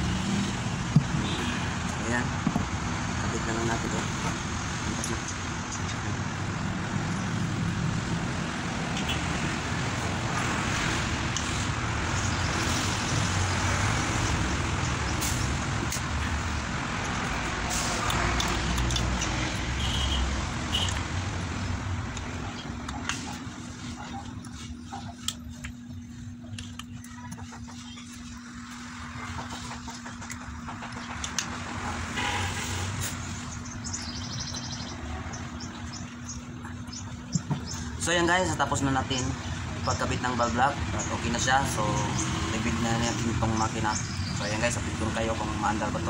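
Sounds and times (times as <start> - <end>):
traffic noise: 0.0 - 46.0.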